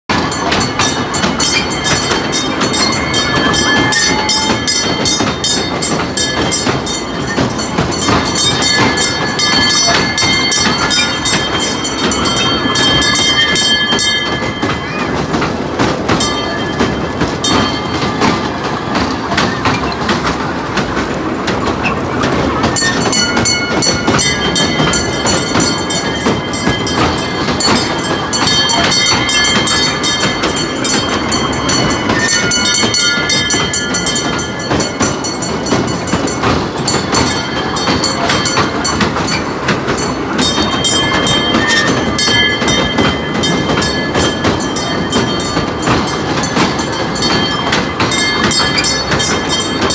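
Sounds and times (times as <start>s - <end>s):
train rumbling and rattling: 0.0s - 49.9s.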